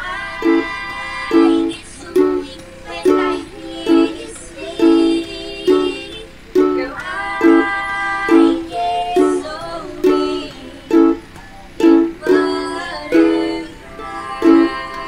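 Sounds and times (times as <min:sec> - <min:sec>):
person singing: 0:00.0 - 0:15.0
ukulele strumming: 0:00.0 - 0:15.0.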